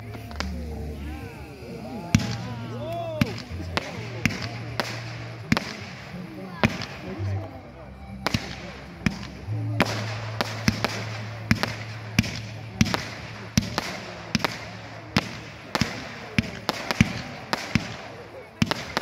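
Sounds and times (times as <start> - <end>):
fireworks firing: 0.0 - 7.5, 8.1 - 19.0
fireworks hissing: 0.0 - 19.0.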